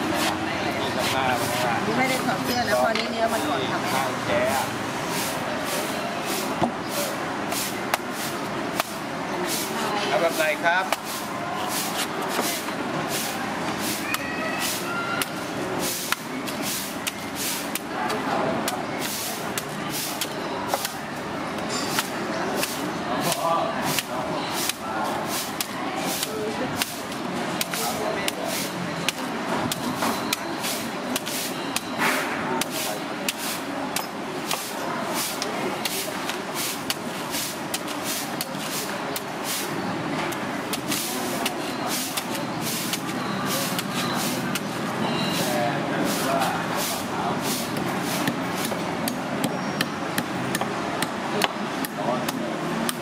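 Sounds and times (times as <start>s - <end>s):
background noise: 0.0s - 53.0s
street traffic hum: 0.0s - 53.0s
knife cutting coconut husk: 5.1s - 21.1s, 21.9s - 39.7s, 40.3s - 44.7s, 45.3s - 53.0s.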